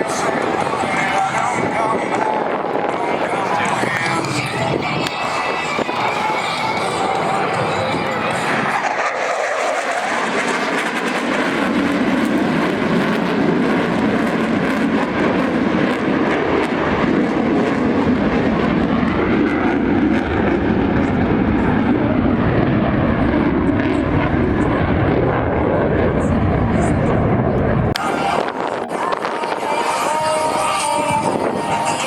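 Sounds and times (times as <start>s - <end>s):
faint gliding whine: 0.0s - 32.0s
jet engines roaring: 0.0s - 32.0s.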